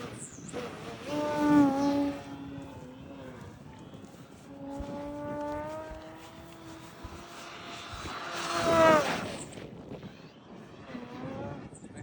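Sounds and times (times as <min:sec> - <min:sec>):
model plane propeller drone: 0:00.0 - 0:12.0
wind buffeting microphone: 0:00.0 - 0:12.0.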